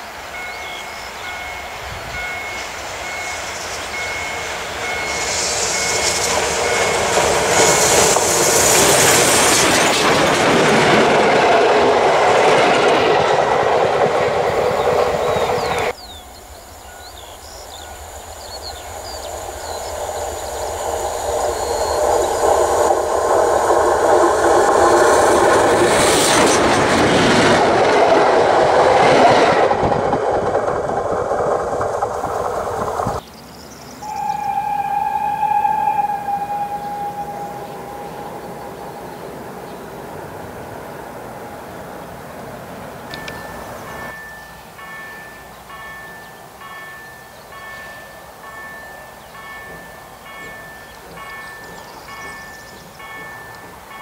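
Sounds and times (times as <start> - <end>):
steam locomotive hauling a train: 0.0 - 54.0.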